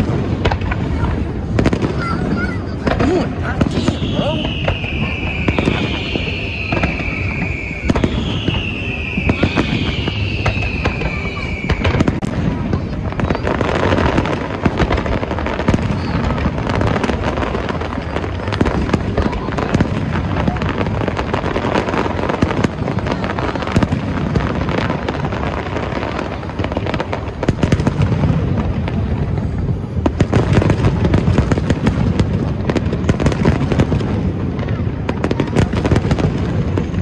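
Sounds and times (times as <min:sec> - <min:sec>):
fireworks crackling: 0:00.0 - 0:37.0.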